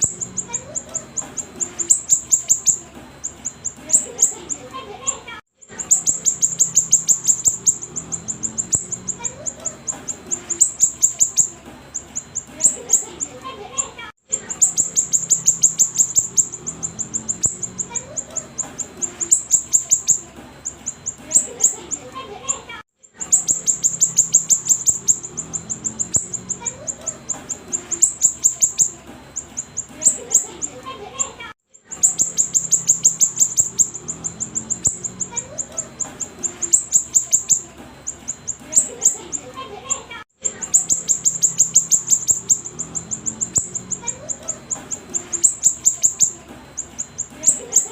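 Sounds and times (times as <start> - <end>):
songbird calling sharp high notes: 0.0 - 4.7, 5.7 - 13.4, 14.4 - 22.1, 23.2 - 30.8, 31.8 - 39.5, 40.5 - 47.9
bird chirping rapidly: 0.0 - 47.9.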